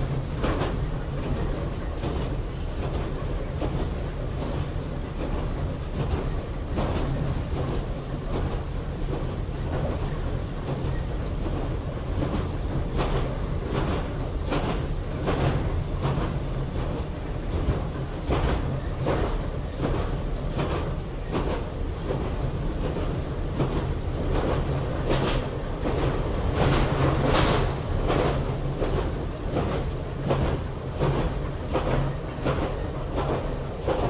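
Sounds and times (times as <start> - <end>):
train interior hum and rumble: 0.0 - 34.0.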